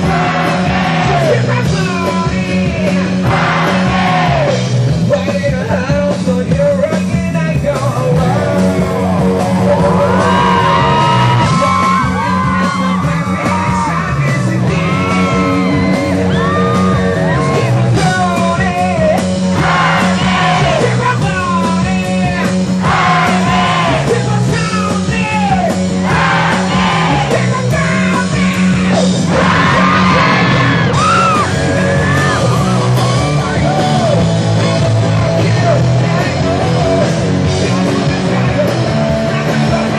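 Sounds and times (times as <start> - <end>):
man singing and shouting: 0.0 - 39.9
repeating bass line: 0.0 - 39.9
rock band playing: 0.0 - 39.9.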